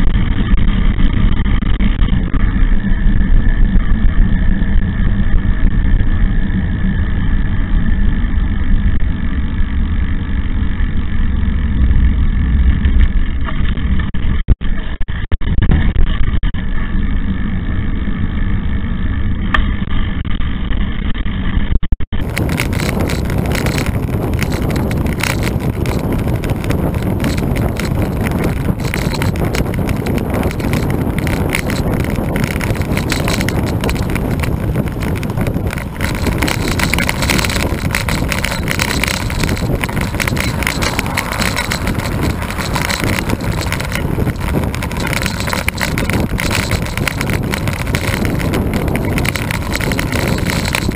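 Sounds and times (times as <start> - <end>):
bike tyres on asphalt: 0.0 - 50.9
rushing wind: 0.0 - 50.9.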